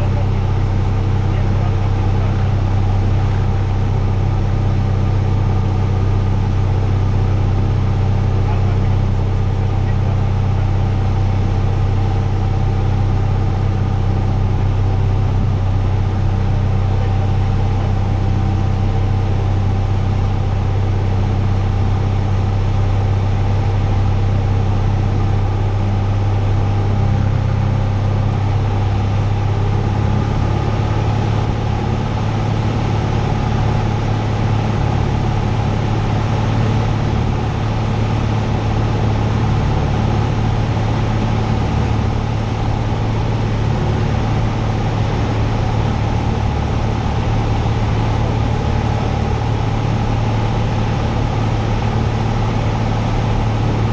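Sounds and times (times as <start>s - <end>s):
propeller plane engine drone: 0.0s - 53.9s.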